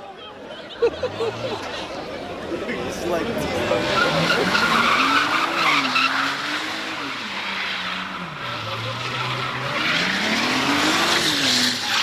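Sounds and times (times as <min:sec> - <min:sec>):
tires squealing and skidding: 0:00.7 - 0:12.0
car engine revving: 0:00.8 - 0:12.0.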